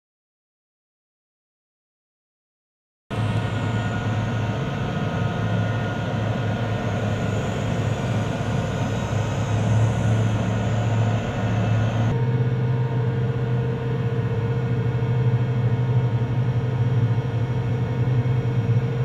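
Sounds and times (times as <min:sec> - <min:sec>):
tank turbine engine running: 0:03.1 - 0:19.0.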